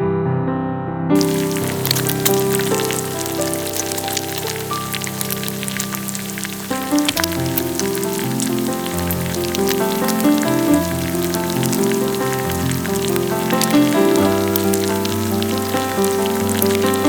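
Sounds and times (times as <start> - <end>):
fine sizzling crackle: 1.2 - 17.0.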